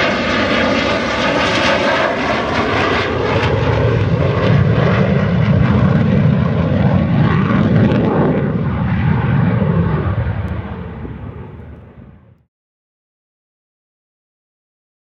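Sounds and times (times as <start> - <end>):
fighter jet passing overhead: 0.0 - 12.5.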